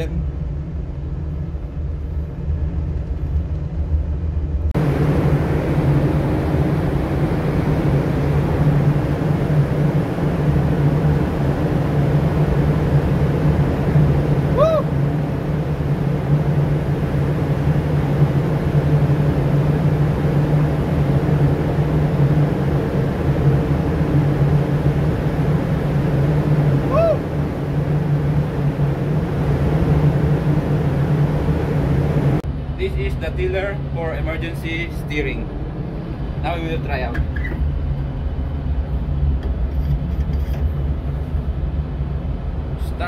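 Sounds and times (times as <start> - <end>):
diesel boat engine running: 0.0 - 43.0.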